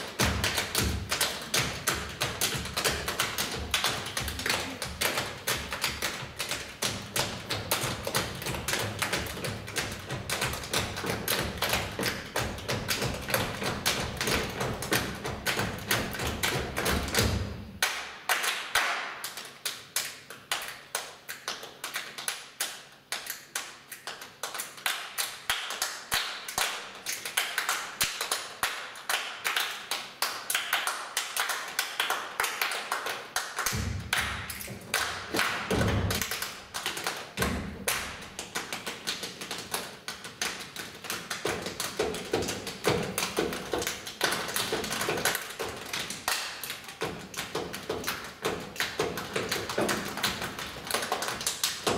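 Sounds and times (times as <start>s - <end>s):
hands clapping: 0.0s - 51.9s.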